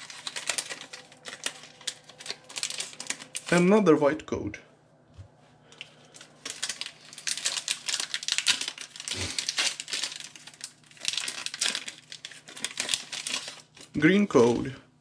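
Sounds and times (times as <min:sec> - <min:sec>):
foil wrapper crinkling: 0:00.0 - 0:03.6, 0:05.7 - 0:14.7.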